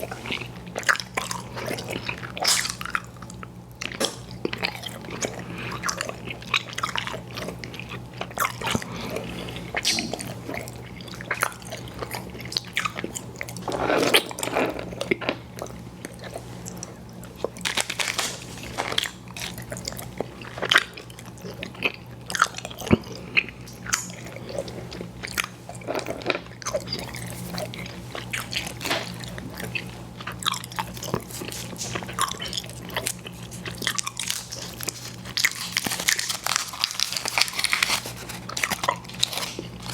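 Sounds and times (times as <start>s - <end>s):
chewing chewy candy: 0.0s - 39.9s
steady low hum: 0.0s - 39.9s.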